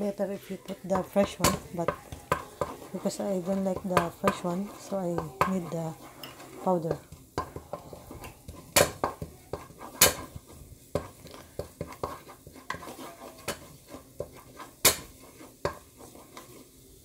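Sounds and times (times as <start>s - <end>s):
spatula knocking and scraping pot: 0.0s - 16.8s
garlic frying in oil: 0.0s - 17.0s.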